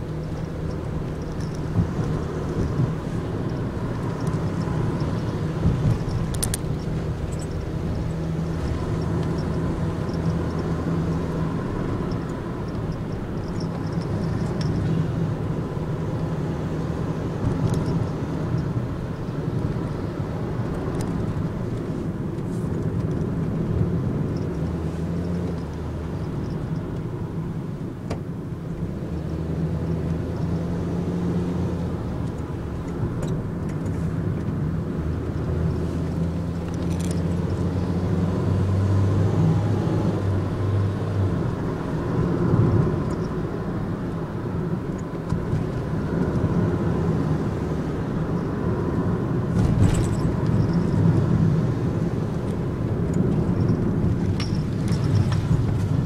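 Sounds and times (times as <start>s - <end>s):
tyre and road noise: 0.0s - 56.0s
van engine hum: 0.0s - 56.0s.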